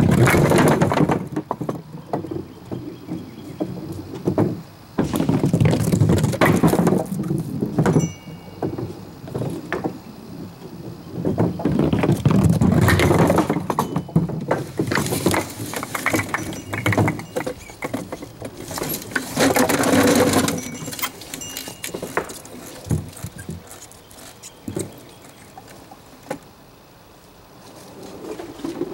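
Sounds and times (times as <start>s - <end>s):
pins scraping on wooden deck: 0.0s - 26.6s, 27.6s - 28.9s
wooden bowling pins clattering: 0.0s - 26.6s, 27.9s - 28.9s.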